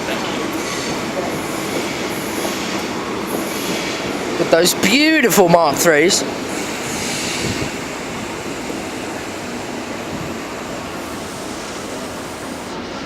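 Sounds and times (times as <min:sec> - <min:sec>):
train coaches rolling on rails: 0:00.0 - 0:13.0.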